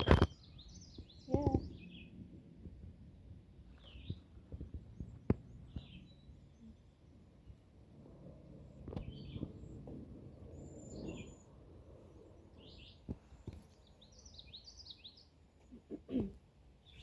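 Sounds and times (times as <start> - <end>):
small birds chirping: 0.0 - 3.0, 3.6 - 7.8, 8.6 - 17.0
low outdoor rumble: 0.0 - 17.0.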